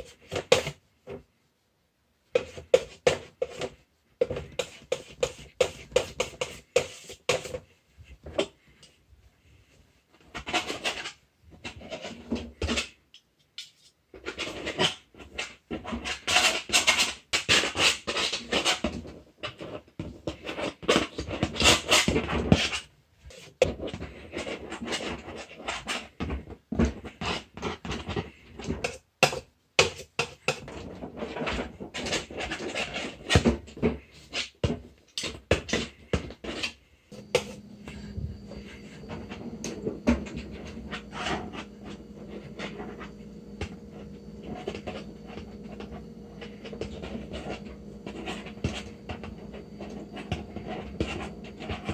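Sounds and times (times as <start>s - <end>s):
palette knife scraping paint: 2.3s - 7.8s, 10.1s - 13.0s, 13.7s - 51.9s
knife scratching across canvas: 2.4s - 7.6s, 10.2s - 13.0s, 14.2s - 26.2s, 26.9s - 51.9s.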